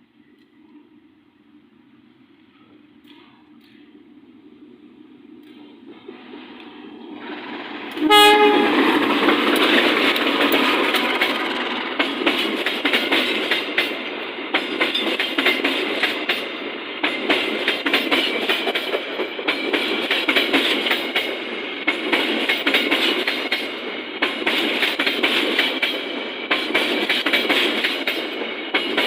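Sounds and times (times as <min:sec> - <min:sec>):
train rumble: 0:00.0 - 0:29.0
train wheels clicking over rail joints: 0:05.3 - 0:29.0.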